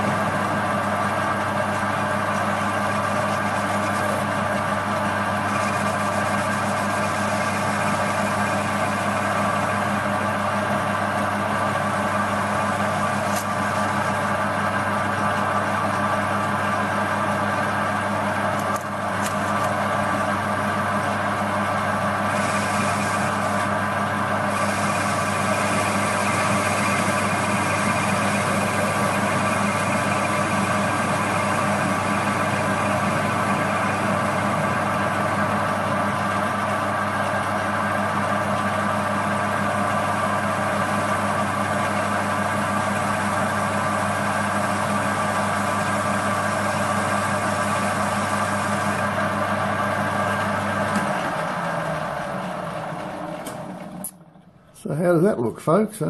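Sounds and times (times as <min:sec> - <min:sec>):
metal lathe humming with gear whine: 0:00.0 - 0:54.1.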